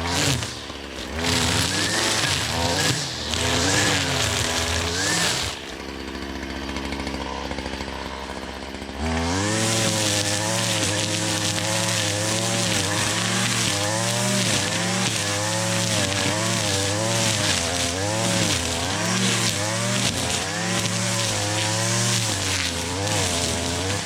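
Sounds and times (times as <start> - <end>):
string trimmer engine revving: 0.0 - 24.0.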